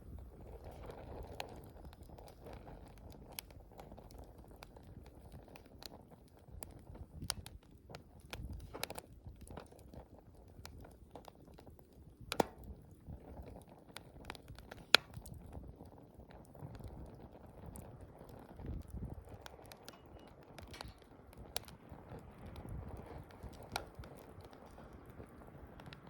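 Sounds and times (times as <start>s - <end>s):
campfire crackling: 0.0s - 26.0s
fire popping: 0.0s - 26.0s.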